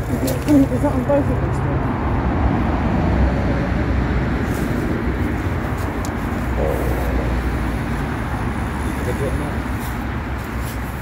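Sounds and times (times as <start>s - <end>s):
busy road traffic rumble: 0.0s - 11.0s.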